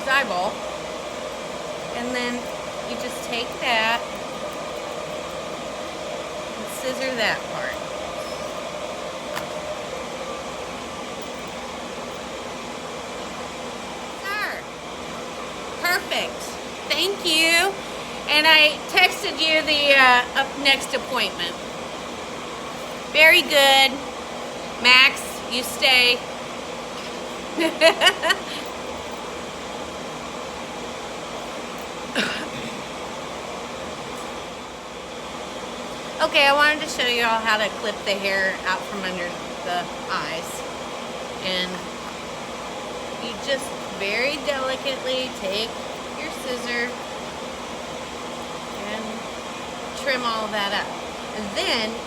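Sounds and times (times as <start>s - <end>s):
blower rushing air: 0.0s - 52.0s
fan whooshing: 0.0s - 52.0s.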